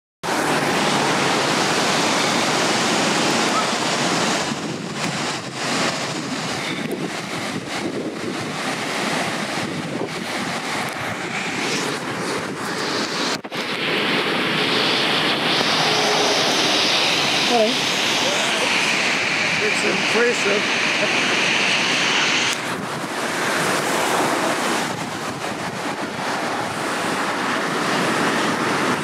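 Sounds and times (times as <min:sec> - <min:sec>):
floodwater rushing: 0:00.2 - 0:29.0
wind buffeting microphone: 0:00.2 - 0:29.0.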